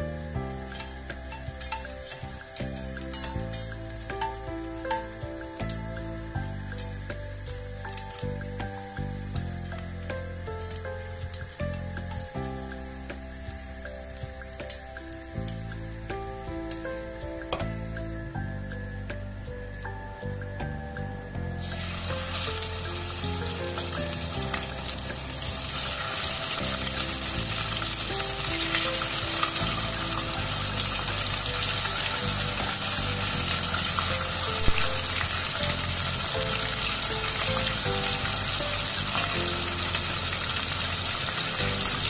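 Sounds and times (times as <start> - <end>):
background music with melody: 0.0 - 42.0
chicken frying in hot oil: 0.0 - 42.0.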